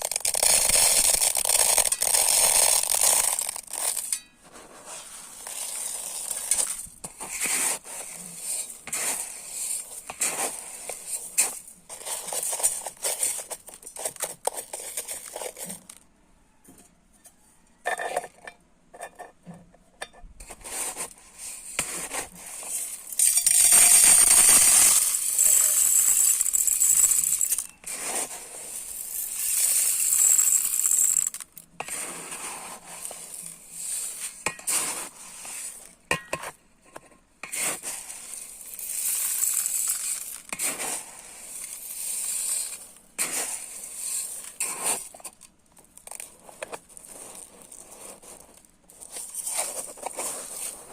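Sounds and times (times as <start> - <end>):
rice grains poured into container: 0.0 - 4.2, 4.8 - 16.0, 20.6 - 35.9, 37.7 - 45.1, 46.0 - 50.9
rattling of grains: 0.0 - 16.1, 20.4 - 50.9.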